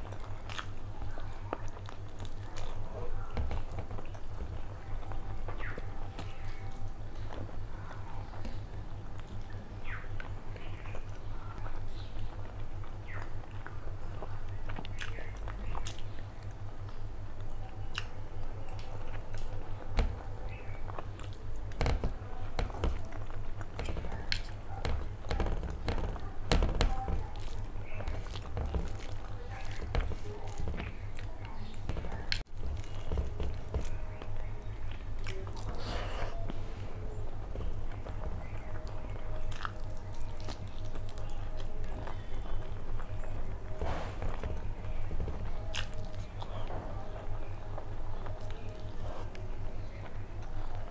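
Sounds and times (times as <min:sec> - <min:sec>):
chewing food: 0:00.0 - 0:50.9
steady low hum: 0:00.0 - 0:50.9.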